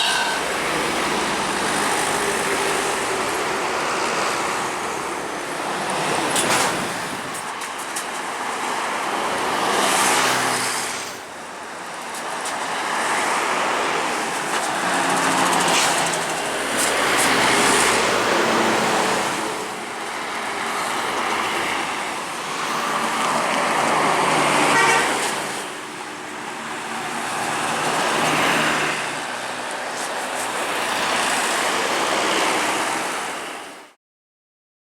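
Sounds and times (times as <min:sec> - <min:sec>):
buses passing: 0:00.0 - 0:33.9.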